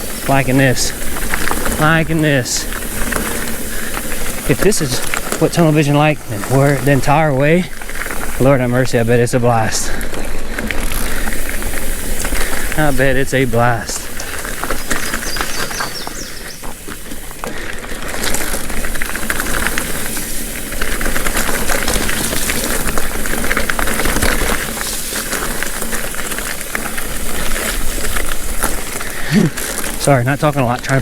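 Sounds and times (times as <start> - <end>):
tyre and wind rush: 0.0 - 30.9
bike chain and frame rattling: 0.0 - 31.0.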